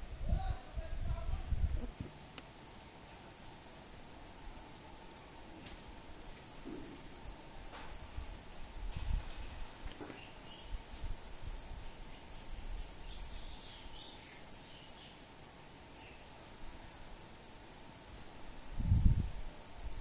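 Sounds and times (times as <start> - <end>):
insects droning in trees: 0.0 - 20.0.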